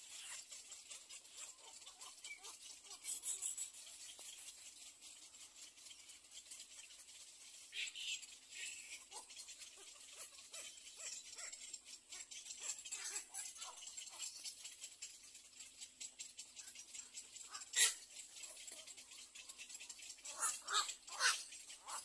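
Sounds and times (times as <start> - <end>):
bird chicks soft calls: 0.0 - 22.0.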